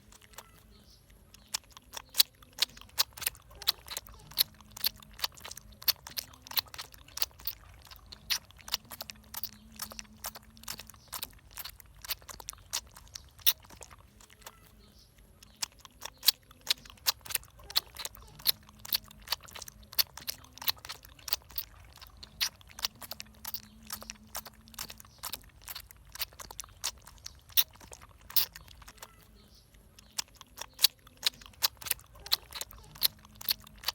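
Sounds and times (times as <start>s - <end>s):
puppy chewing and crunching: 0.0s - 33.9s.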